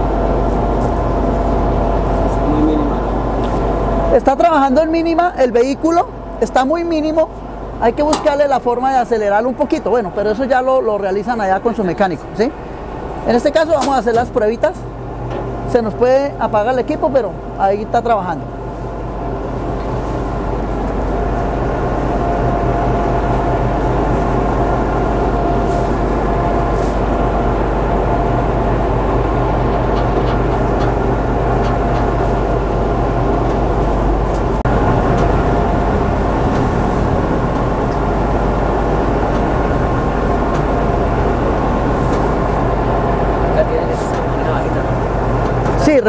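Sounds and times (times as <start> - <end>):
diesel engine idling with whine: 0.0 - 46.0.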